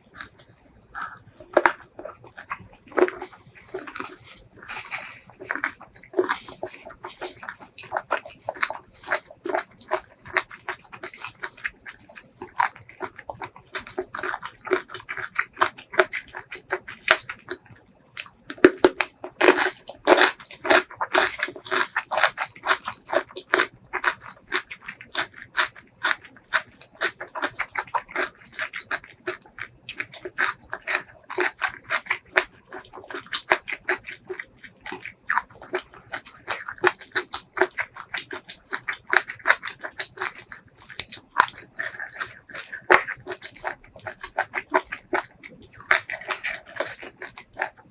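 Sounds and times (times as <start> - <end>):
wet chewing and mouth smacks: 0.0 - 47.9.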